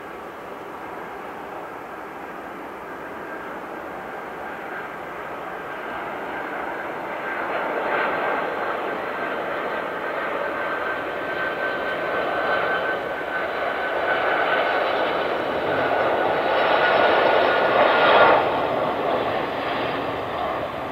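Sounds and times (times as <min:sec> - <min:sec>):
jet engines rushing: 0:00.0 - 0:20.9.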